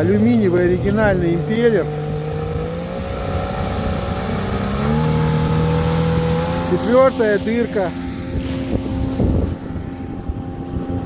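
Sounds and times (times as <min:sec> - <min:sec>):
outboard engine running: 0:00.0 - 0:11.0
wind noise on microphone: 0:00.7 - 0:11.0.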